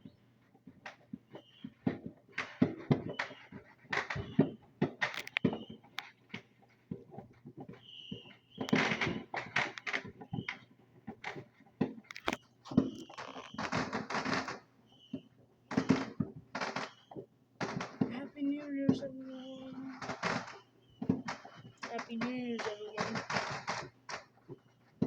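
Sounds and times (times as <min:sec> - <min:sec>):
fireworks pops and bangs: 0:00.0 - 0:25.0
fireworks rapid crackling: 0:00.0 - 0:25.0.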